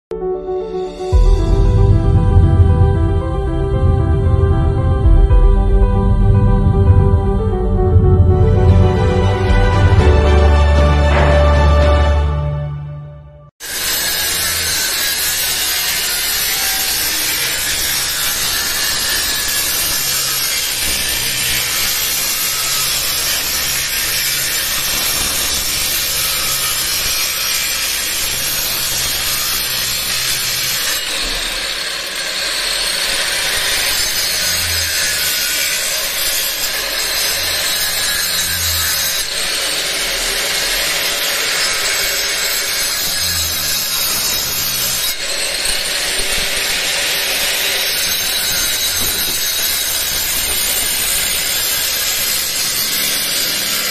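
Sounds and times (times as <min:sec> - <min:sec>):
angle grinder cutting masonry: 0:08.4 - 0:12.6, 0:13.6 - 0:53.9.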